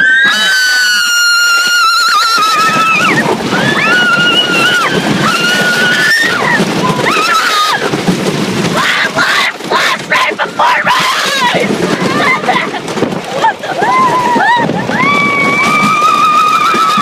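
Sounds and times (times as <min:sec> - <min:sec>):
people screaming: 0:00.0 - 0:07.9, 0:08.8 - 0:12.7, 0:13.4 - 0:17.0
roller coaster rumbling on track: 0:00.0 - 0:17.0
wind noise on microphone: 0:00.0 - 0:17.0.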